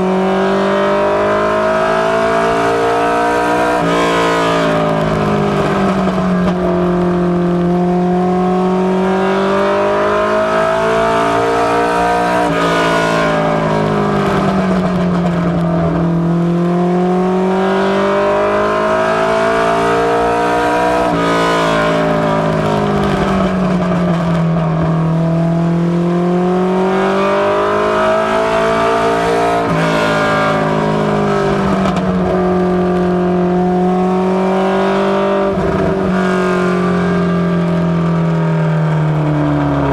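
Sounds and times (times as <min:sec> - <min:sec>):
race car engine revving: 0:00.0 - 0:38.5.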